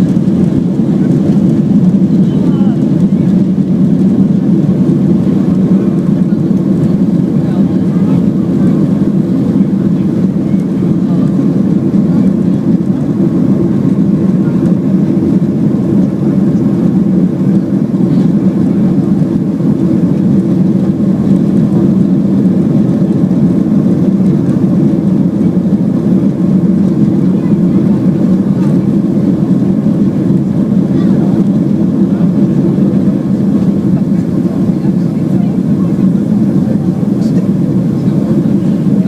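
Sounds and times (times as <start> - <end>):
jet engine rumble: 0.0 - 39.0.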